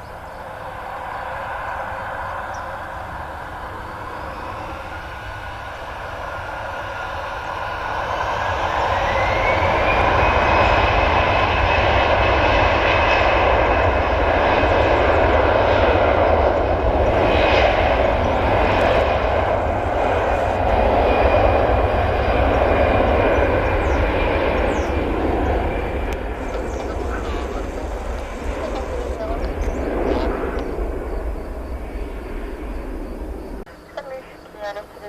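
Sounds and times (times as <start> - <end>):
jet engines at take-off thrust: 0.0 - 35.0.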